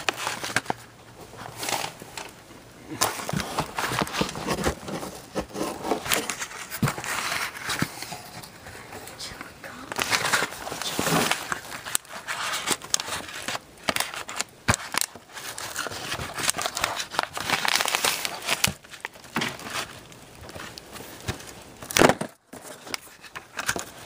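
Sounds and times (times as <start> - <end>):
crinkling and rustling: 0.0 - 24.0.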